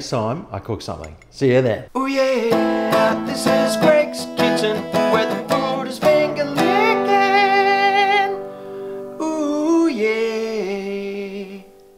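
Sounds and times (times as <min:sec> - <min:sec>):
acoustic guitar strumming: 0:02.0 - 0:11.9.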